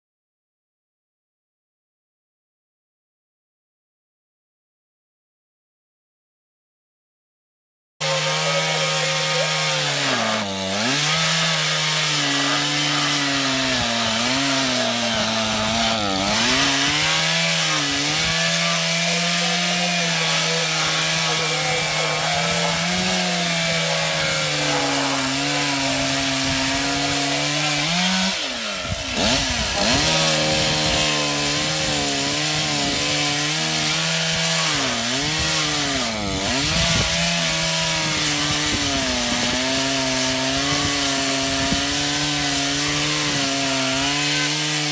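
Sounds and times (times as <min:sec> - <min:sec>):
chainsaw cutting wood: 0:08.0 - 0:44.9.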